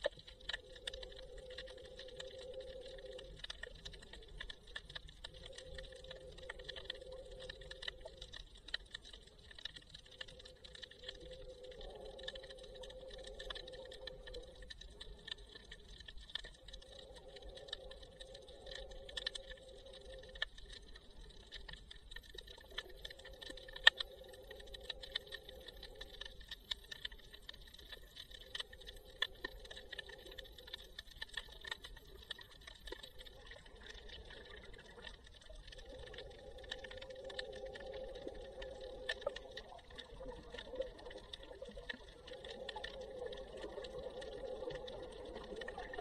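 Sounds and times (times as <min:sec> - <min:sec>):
sharp clicks and crackles: 0:00.0 - 0:46.0.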